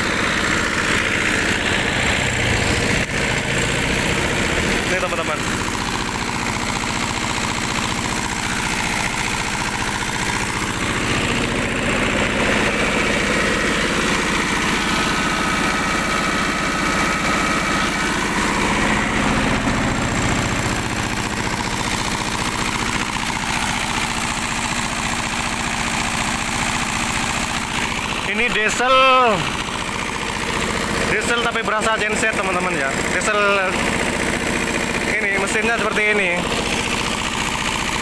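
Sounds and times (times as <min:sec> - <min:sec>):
diesel generator running: 0:00.0 - 0:38.0.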